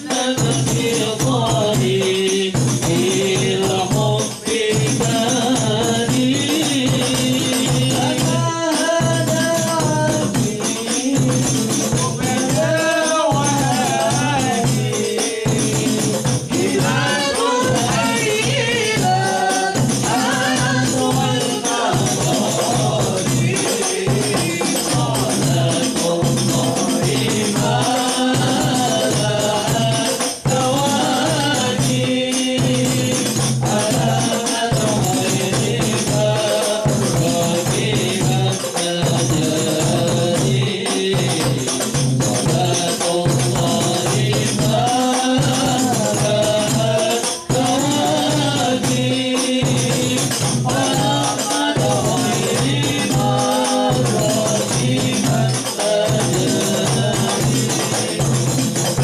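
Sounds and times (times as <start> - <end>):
hand-struck frame drums: 0.0 - 59.0
lead voice singing: 0.0 - 59.0
men singing together: 0.0 - 59.0
bass drum: 0.4 - 59.0.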